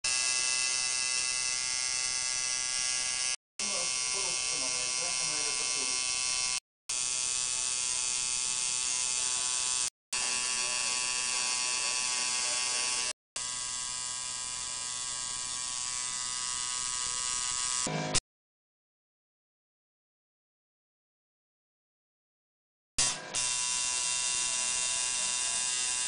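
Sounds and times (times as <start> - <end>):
tattoo machine buzzing: 0.0 - 18.2, 23.0 - 26.0.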